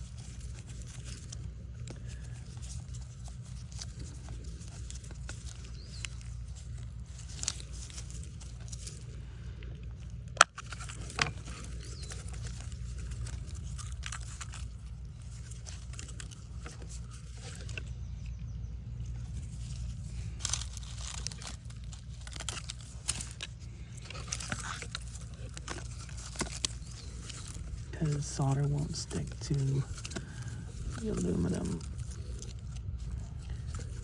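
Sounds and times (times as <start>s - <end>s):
crinkling handling noise: 0.0s - 34.0s
steady low hum: 0.0s - 34.0s.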